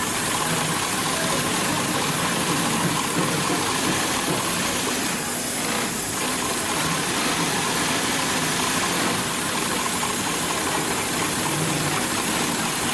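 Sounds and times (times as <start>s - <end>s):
industrial sewing machine running: 0.0s - 12.9s.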